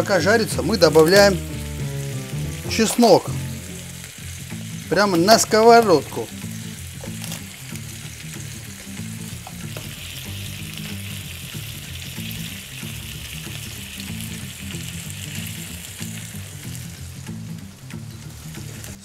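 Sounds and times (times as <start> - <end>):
meat sizzling in a grill pan: 0.1 - 19.0.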